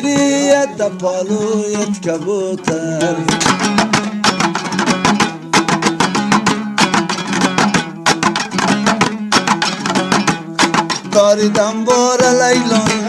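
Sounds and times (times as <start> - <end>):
plucked string instrument strumming: 0.0 - 13.0.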